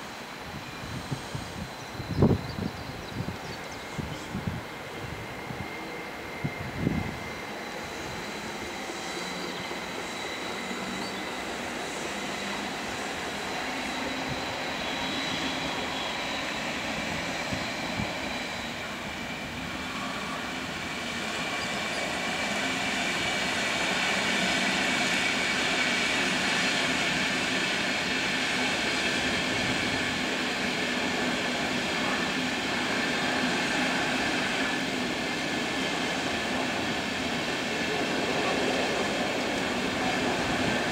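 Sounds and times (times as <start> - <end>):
faint high whines: 0.0 - 40.9
train rushing past: 0.0 - 40.9.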